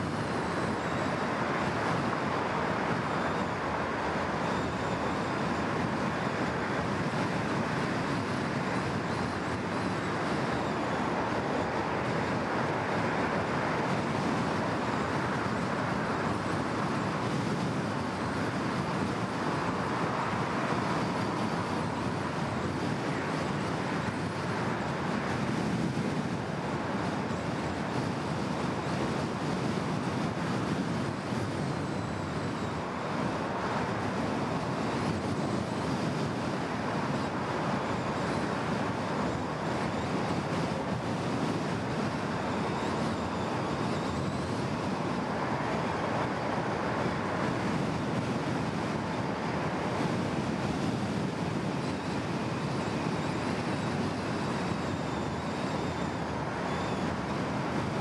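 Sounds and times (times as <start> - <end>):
car tyre and road noise: 0.0 - 58.0
surrounding traffic: 0.0 - 58.0.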